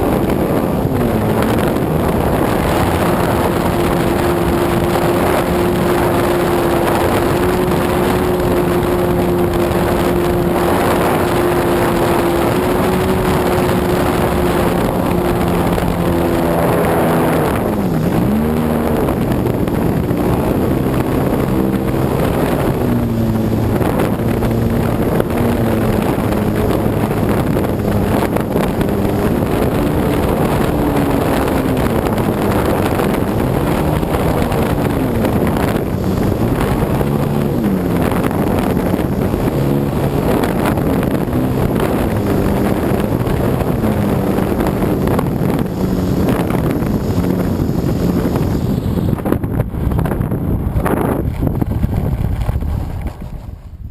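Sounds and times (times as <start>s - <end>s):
model plane engine droning: 0.0s - 49.6s
wind buffeting microphone: 0.0s - 53.9s.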